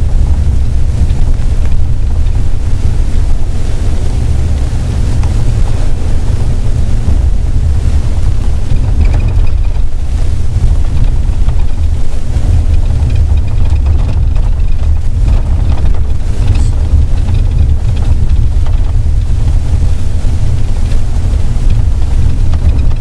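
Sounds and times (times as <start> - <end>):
vehicle driving rumble: 0.0 - 23.0
wind buffeting microphone: 0.0 - 23.0.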